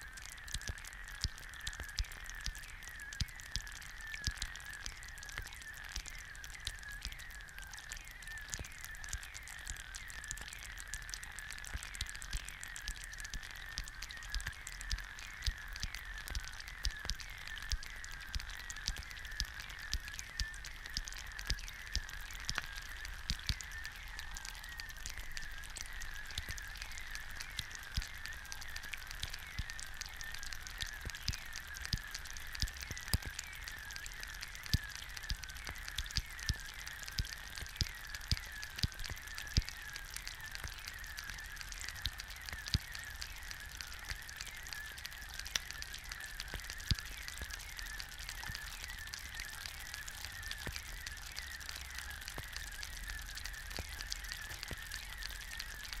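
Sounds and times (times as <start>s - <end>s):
egg sizzling in pan: 0.0s - 56.0s
sharp pops and crackles: 0.0s - 56.0s.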